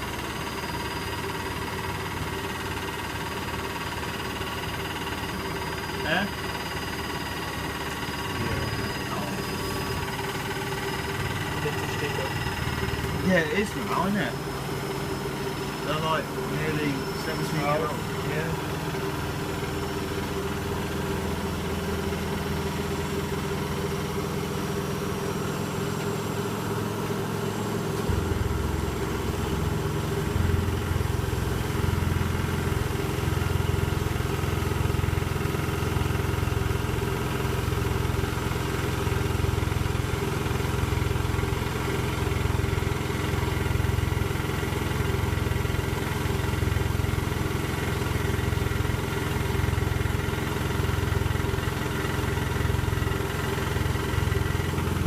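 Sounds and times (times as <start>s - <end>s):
washing machine drum spinning: 0.0s - 55.0s
washing machine humming: 0.0s - 55.0s.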